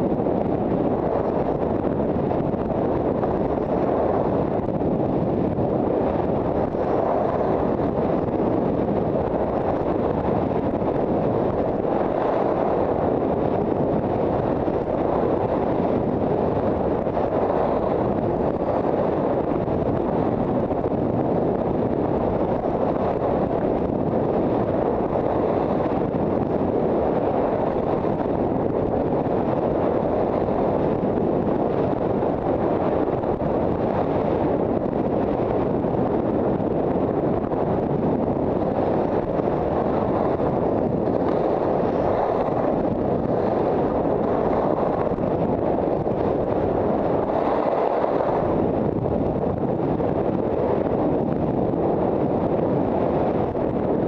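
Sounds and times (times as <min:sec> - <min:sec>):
wind rushing on microphone: 0:00.0 - 0:54.0.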